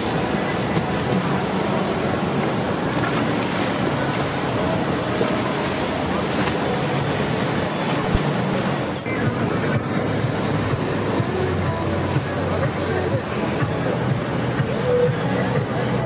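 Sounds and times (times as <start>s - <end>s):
low boat engine hum: 0.0s - 16.0s
moving water: 0.0s - 16.0s
wind: 0.0s - 16.0s.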